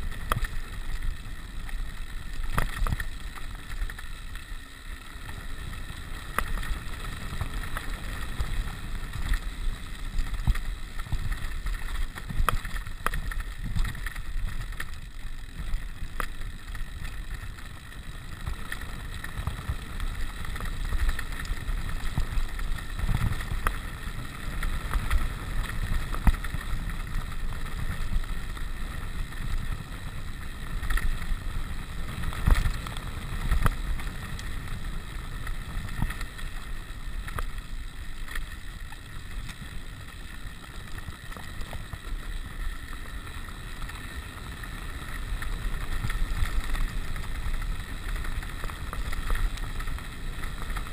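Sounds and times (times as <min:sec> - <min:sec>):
bike rattling: 0:00.0 - 0:50.9.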